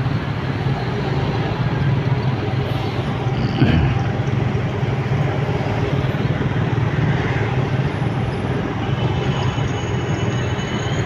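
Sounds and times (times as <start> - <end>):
cars and buses in traffic: 0.0 - 11.0.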